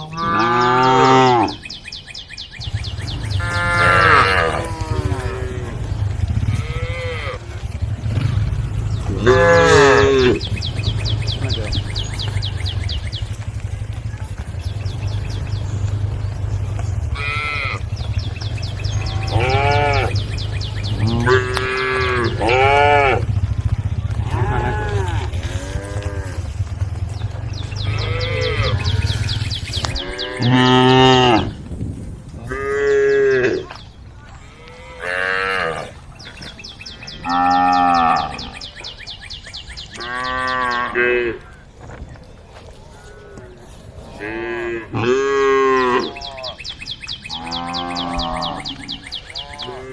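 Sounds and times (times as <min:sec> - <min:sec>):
cows mooing: 0:00.0 - 0:01.6, 0:02.9 - 0:13.8, 0:14.4 - 0:31.6, 0:32.4 - 0:33.8, 0:34.4 - 0:36.0, 0:37.2 - 0:38.8, 0:40.0 - 0:41.6, 0:43.0 - 0:46.6, 0:47.3 - 0:49.9.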